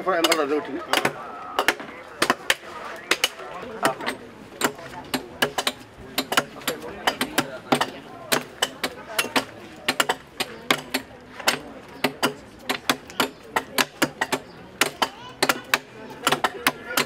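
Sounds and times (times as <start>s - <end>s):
faint voices: 0.0s - 17.0s.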